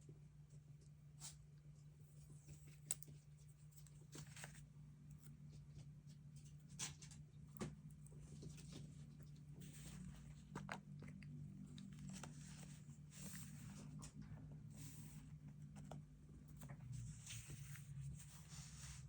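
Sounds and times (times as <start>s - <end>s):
low steady hum: 0.0s - 19.0s
paper rustling: 2.2s - 7.3s, 8.1s - 19.0s.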